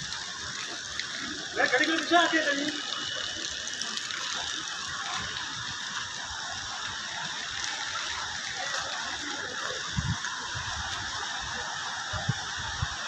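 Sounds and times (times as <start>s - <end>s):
water rushing along road: 0.0s - 13.0s.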